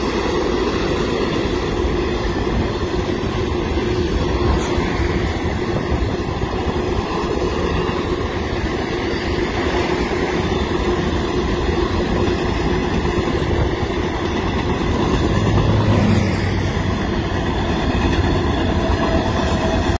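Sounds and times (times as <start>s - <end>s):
steel wheels on rail: 0.0s - 20.0s.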